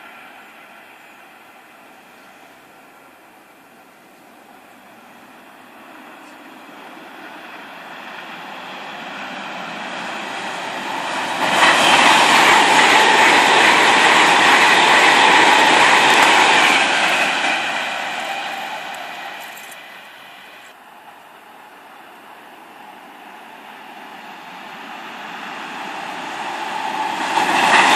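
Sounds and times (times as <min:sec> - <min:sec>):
train passing: 0:00.0 - 0:27.9
wheels rushing on rail: 0:00.0 - 0:27.9.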